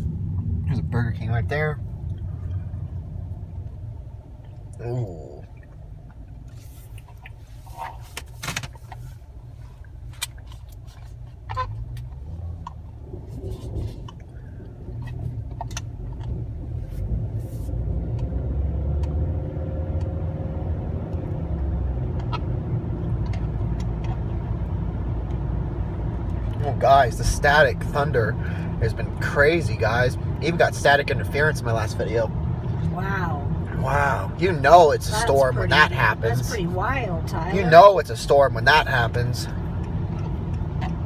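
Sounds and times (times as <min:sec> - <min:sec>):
car engine rumble: 0:00.0 - 0:41.0
road noise: 0:00.0 - 0:41.0.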